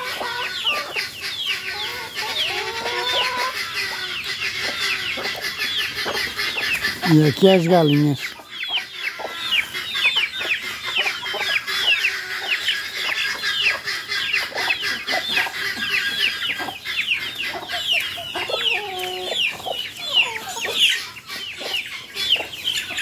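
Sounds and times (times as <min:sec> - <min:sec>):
chicken deep drawn-out call: 0:00.0 - 0:22.5
chickens peeping: 0:00.0 - 0:23.0.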